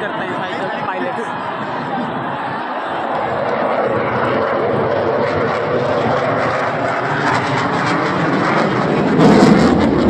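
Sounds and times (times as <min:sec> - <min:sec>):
military jet flying over: 0:00.0 - 0:10.0.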